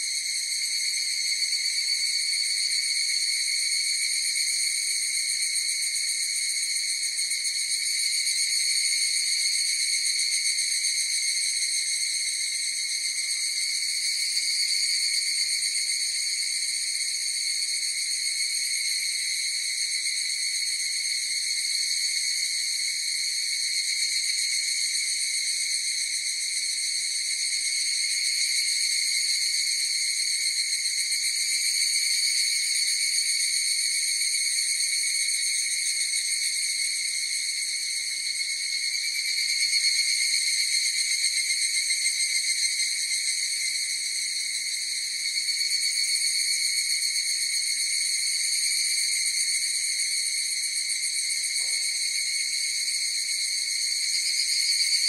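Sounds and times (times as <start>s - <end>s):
cicadas ringing: 0.0s - 55.0s.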